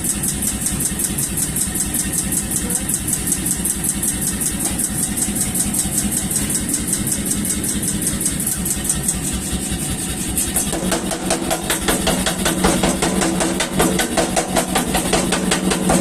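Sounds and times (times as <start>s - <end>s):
power hammer striking: 3.1s - 16.0s.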